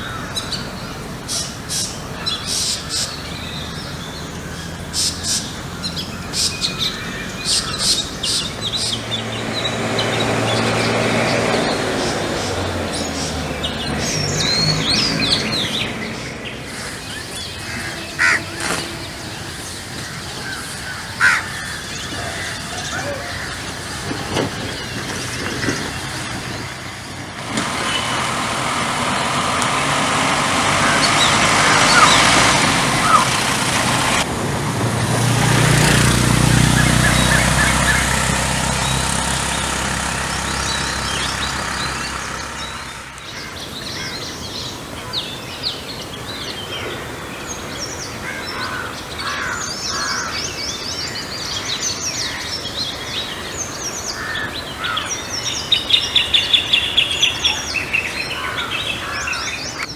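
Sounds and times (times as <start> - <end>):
birds chirping and calling: 0.0 - 34.3, 35.2 - 59.9
outdoor background noise: 0.0 - 59.9
passing motor vehicle rumble: 0.0 - 59.9.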